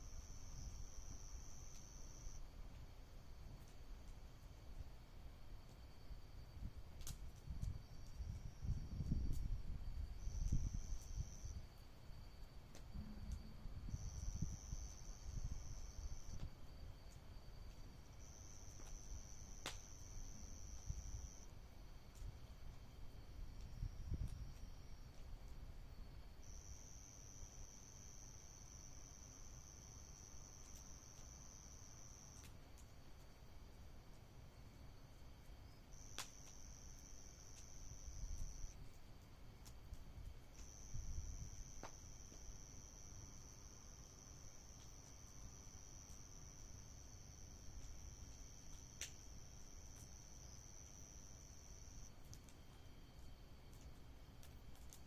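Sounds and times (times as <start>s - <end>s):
crickets trilling: 0.0s - 4.6s, 5.3s - 55.0s.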